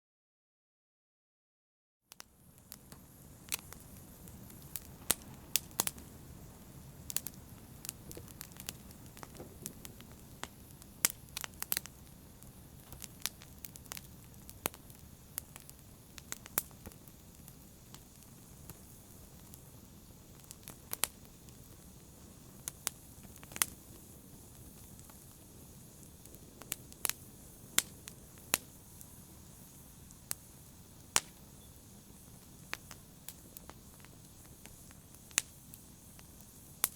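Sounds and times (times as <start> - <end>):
fire crackles and pops: 2.1 - 36.9
low rustle of flames: 2.1 - 36.9.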